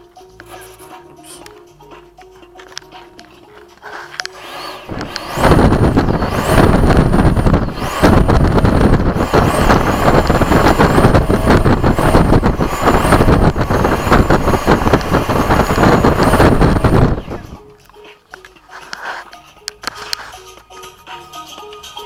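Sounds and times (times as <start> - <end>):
electric ducted fan whine: 0.0 - 21.6.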